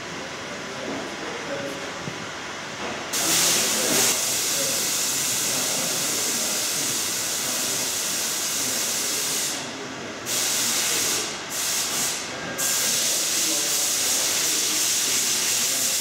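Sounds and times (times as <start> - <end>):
workshop tool hissing on sheet steel: 3.2 - 16.0.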